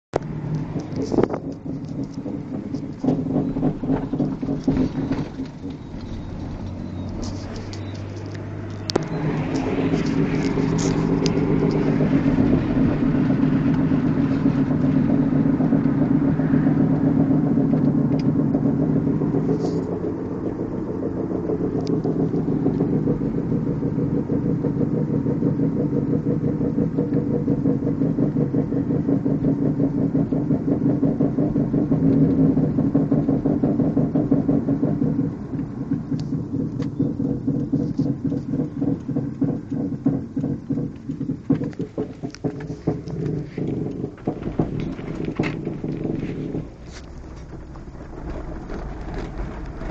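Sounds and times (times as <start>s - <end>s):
car engine running with even pulsing: 0.1s - 49.9s.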